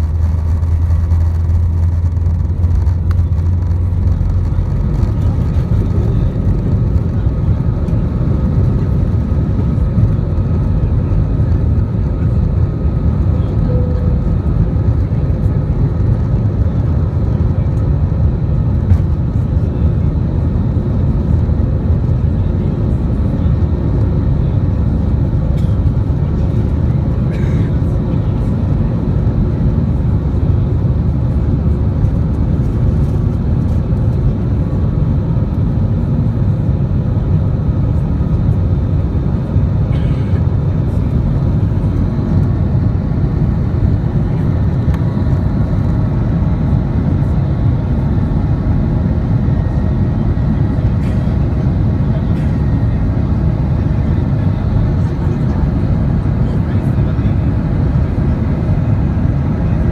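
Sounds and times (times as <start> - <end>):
jet engine and airflow rumble: 0.0 - 59.9.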